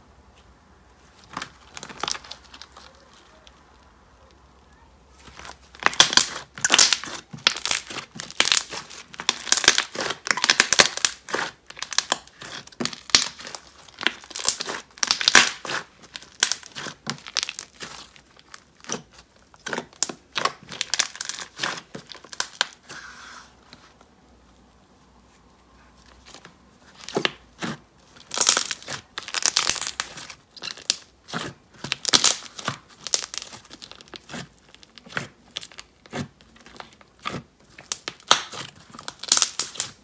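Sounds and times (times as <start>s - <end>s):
slime crackling and popping: 1.2s - 4.4s, 5.2s - 23.0s, 26.2s - 40.0s.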